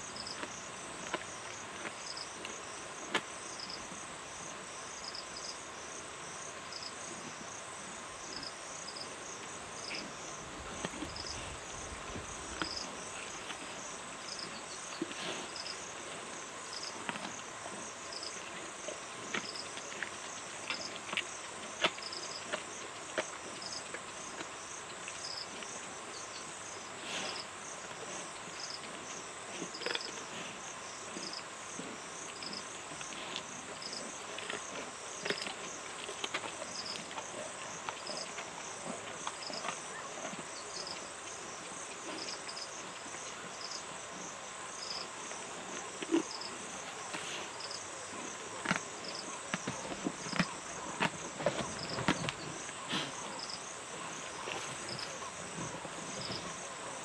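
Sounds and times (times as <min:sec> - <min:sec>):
insect chorus chirping: 0:00.0 - 0:35.8, 0:37.6 - 0:57.0.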